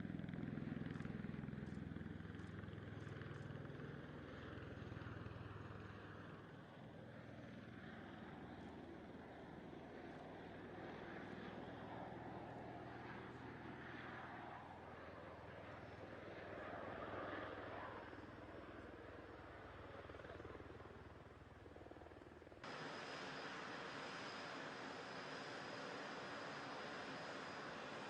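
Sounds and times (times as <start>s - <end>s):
aircraft engines and rotors drone: 0.0s - 28.0s.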